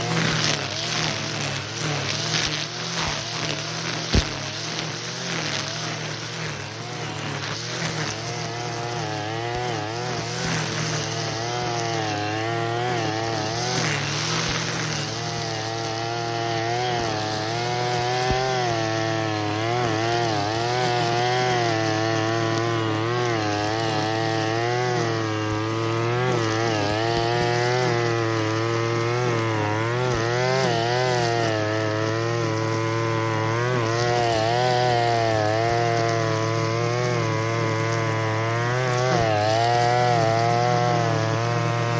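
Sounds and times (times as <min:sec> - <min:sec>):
brush cutter cutting weeds: 0:00.0 - 0:41.9.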